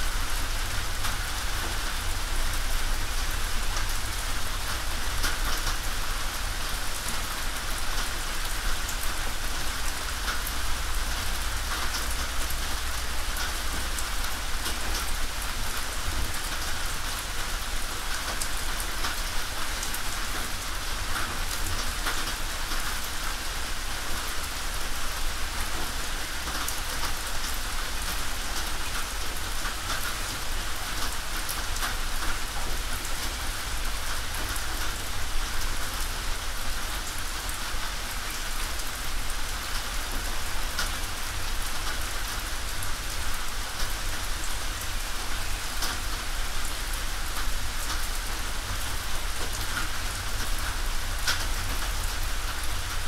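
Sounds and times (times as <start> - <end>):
rain on a tin roof: 0.0 - 53.0.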